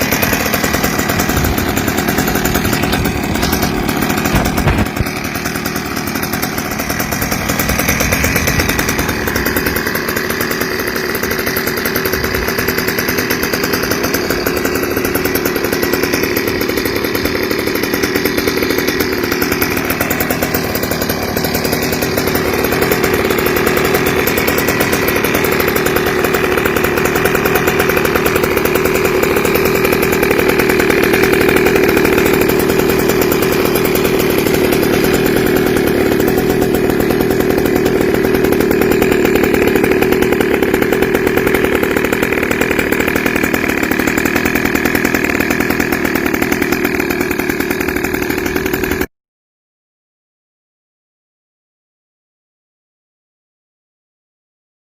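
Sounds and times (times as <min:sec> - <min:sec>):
small two-stroke scooter engine: 0:00.0 - 0:49.1.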